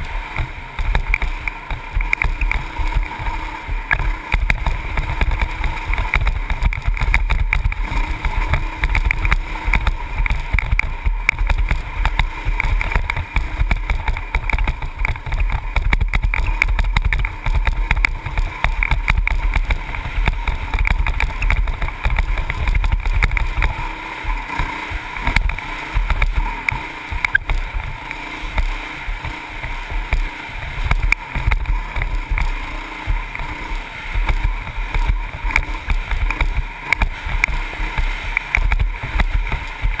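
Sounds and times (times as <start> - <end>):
dirt bike engine running: 0.0 - 40.0.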